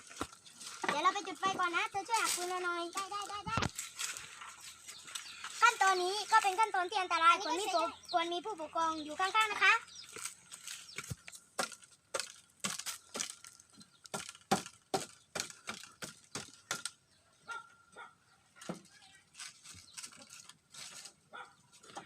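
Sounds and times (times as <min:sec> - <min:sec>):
twigs and firewood crackling: 0:00.0 - 0:17.7, 0:18.6 - 0:22.0.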